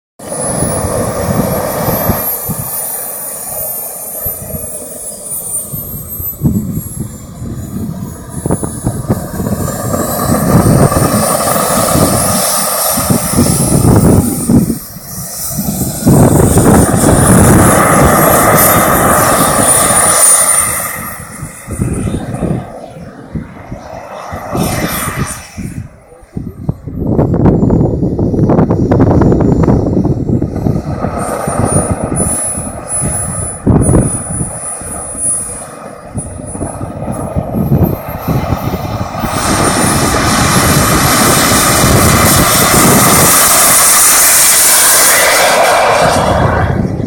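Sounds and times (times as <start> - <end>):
jet rushing noise: 0.2 - 47.0
model jet engine whine: 0.2 - 47.0.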